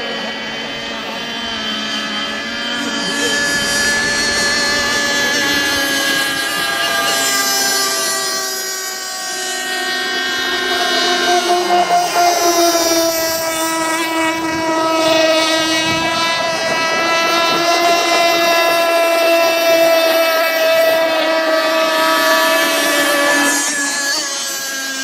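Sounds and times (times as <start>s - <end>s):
model boat motor buzzing: 0.0s - 25.0s.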